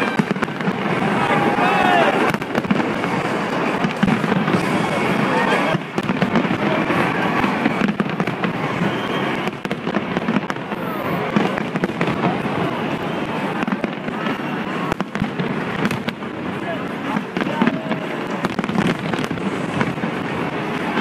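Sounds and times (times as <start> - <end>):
crowd voices: 0.0 - 21.0
fireworks crackling and bursting: 0.0 - 21.0.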